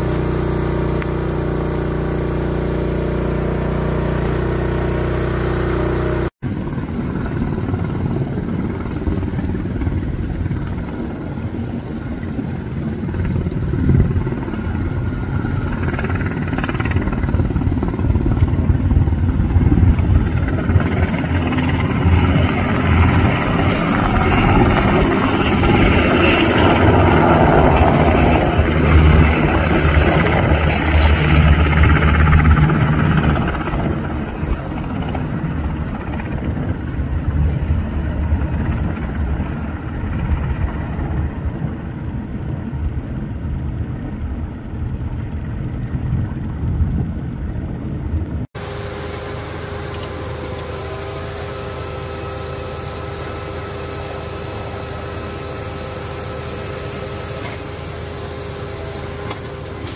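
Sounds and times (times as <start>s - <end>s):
helicopter rotor beating rumble: 0.0s - 59.9s.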